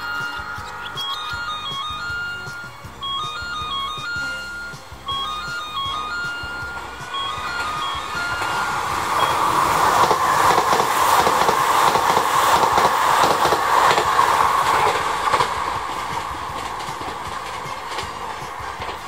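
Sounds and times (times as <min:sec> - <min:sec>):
train passing at speed: 0:00.0 - 0:19.0
wheels clacking over rail joints: 0:00.0 - 0:19.0.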